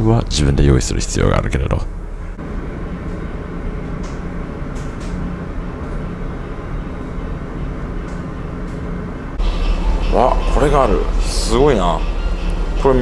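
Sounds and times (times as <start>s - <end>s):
ship engines droning: 0.0s - 13.0s.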